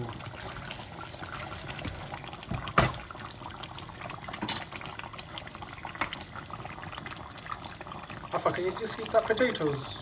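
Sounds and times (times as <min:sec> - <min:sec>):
curry bubbling in a pot: 0:00.0 - 0:10.0.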